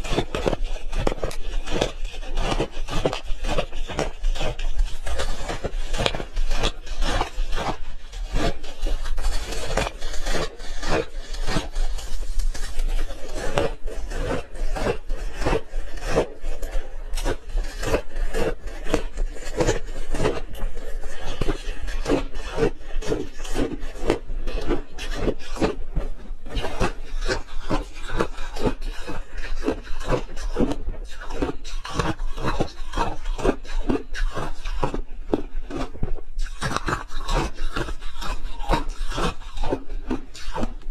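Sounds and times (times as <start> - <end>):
crunching ice in mouth: 0.0 - 40.9.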